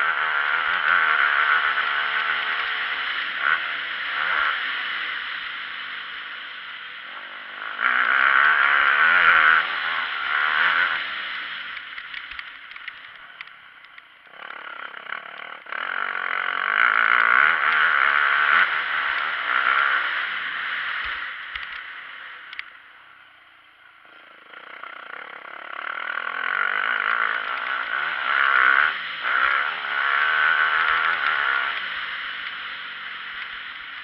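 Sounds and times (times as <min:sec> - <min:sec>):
dirt bike engine revving: 0:00.0 - 0:13.5, 0:14.3 - 0:22.5, 0:24.0 - 0:34.0.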